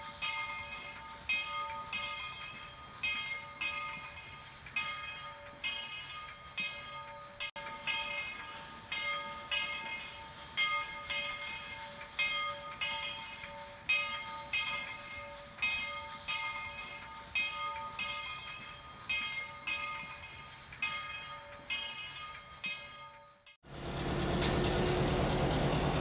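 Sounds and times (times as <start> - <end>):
locomotive bell ringing: 0.0 - 26.0.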